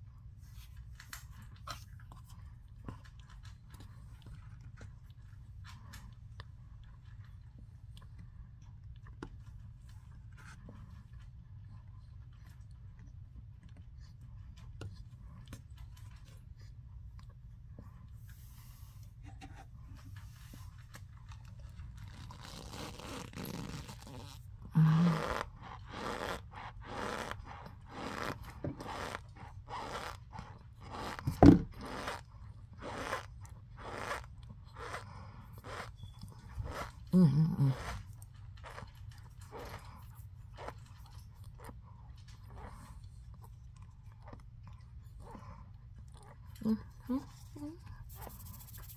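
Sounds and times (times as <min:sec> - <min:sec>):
chewing powdery food: 0:00.0 - 0:48.9.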